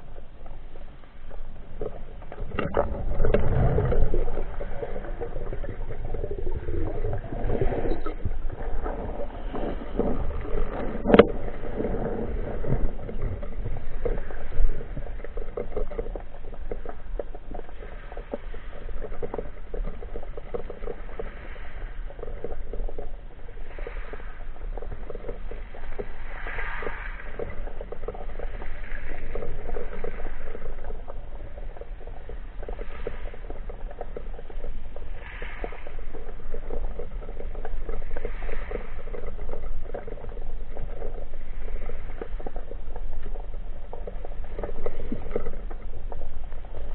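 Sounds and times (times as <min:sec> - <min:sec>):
low underwater rumble: 0:00.0 - 0:46.9
underwater crackle of clicks: 0:00.0 - 0:46.9.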